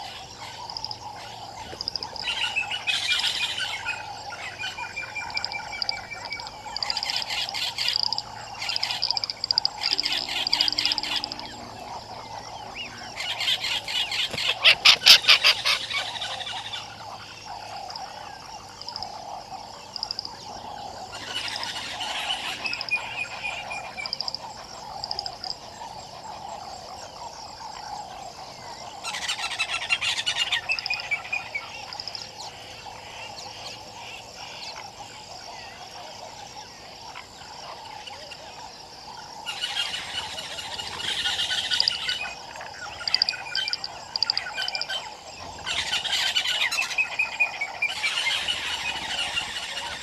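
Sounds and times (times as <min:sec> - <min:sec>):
rapid rattling calls: 0:00.0 - 0:35.4, 0:39.2 - 0:50.0
birds calling: 0:00.0 - 0:50.0
frogs calling: 0:00.0 - 0:50.0.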